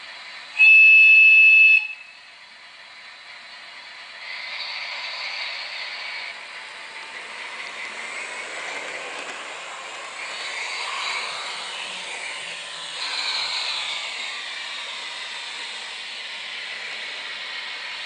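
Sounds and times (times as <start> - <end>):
diesel engine sound from small speaker: 0.0 - 18.0
model train motor and wheels: 0.0 - 18.0.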